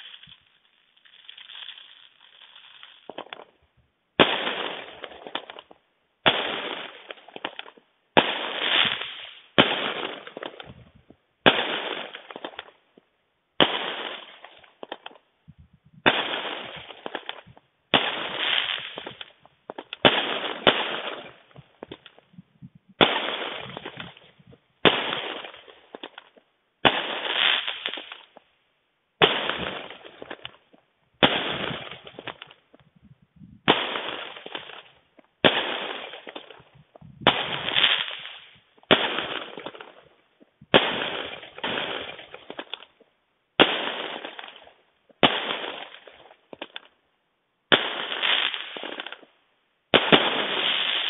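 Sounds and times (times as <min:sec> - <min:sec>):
fireworks banging and crackling: 0:00.0 - 0:28.5, 0:29.2 - 0:47.0, 0:47.7 - 0:51.0.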